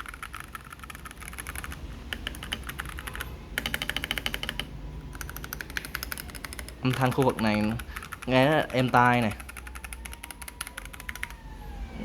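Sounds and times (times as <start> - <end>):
mechanical keyboard keystroke clicks: 0.0 - 11.4.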